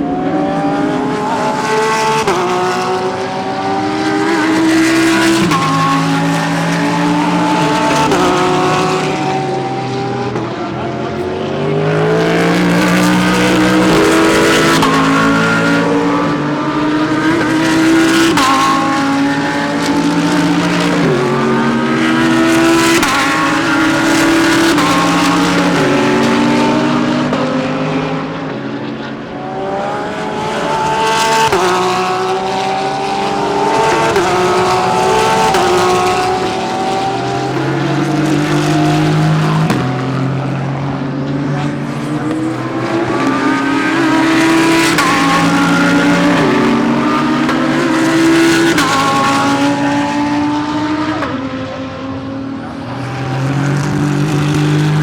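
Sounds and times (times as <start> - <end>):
race car engines accelerating past: 0.0 - 55.0.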